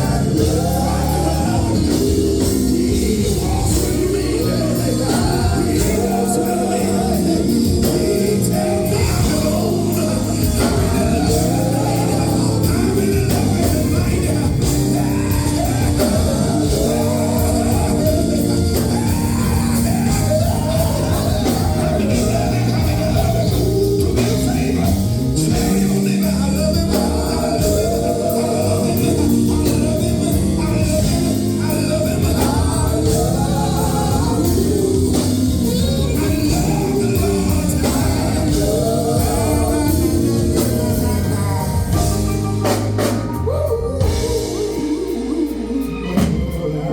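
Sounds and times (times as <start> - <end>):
band playing: 0.0 - 46.9
group singing: 0.0 - 46.9.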